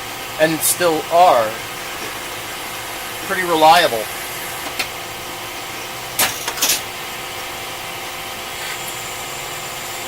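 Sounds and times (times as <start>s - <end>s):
lathe machine hum: 0.0s - 10.0s.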